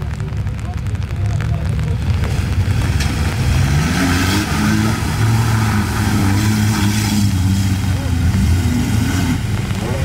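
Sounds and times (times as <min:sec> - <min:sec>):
off-road vehicle engine revving: 0:00.1 - 0:10.0.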